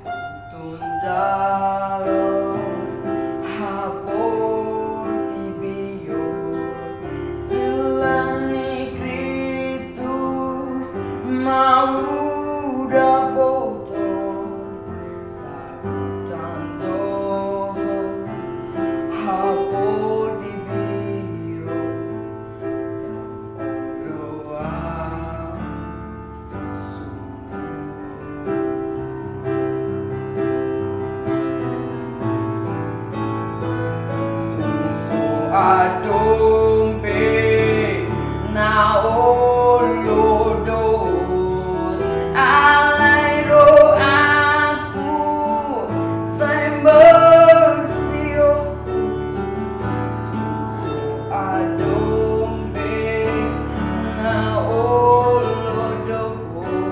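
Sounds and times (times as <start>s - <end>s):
boy singing: 0.0s - 22.2s, 23.8s - 29.8s, 34.5s - 49.3s, 50.3s - 56.9s
piano accompaniment: 0.0s - 56.9s.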